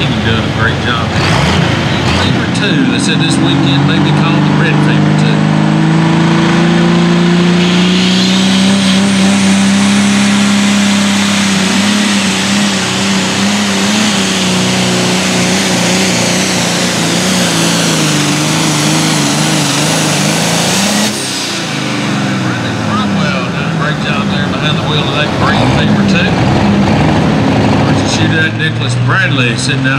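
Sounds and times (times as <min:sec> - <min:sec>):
high whine: 0:00.0 - 0:29.2
diesel tractor engine at full power: 0:00.0 - 0:29.9.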